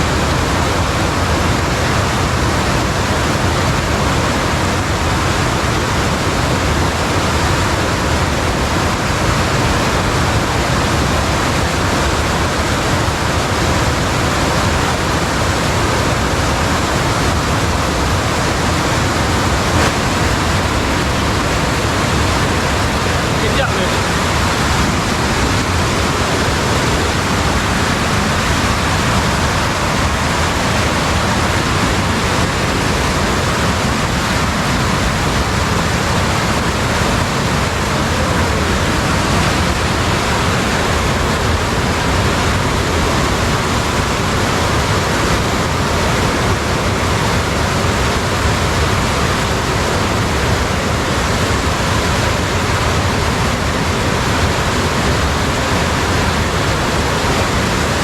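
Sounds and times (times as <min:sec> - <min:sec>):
fast-flowing water rushing: 0:00.0 - 0:58.0.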